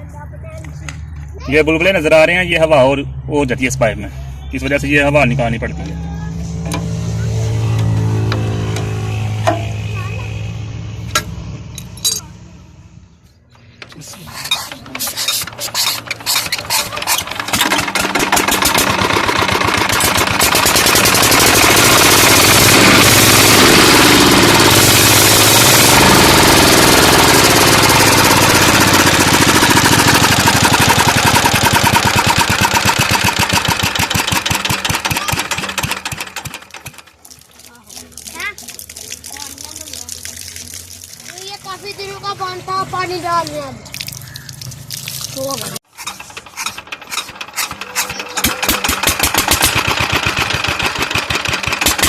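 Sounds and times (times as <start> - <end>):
diesel engine starting and running: 0.0 - 52.0.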